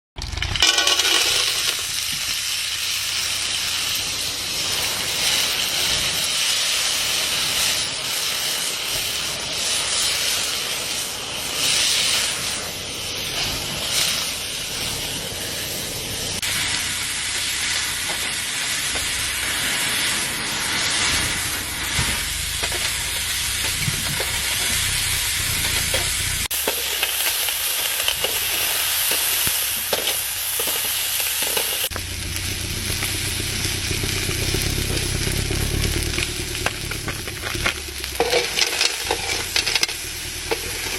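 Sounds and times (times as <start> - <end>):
food frying sizzle: 0.2 - 40.9.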